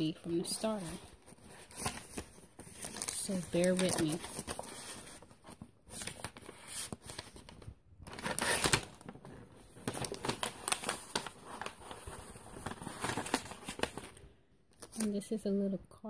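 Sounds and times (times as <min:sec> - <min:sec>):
paper packaging rustling: 0:00.0 - 0:15.2.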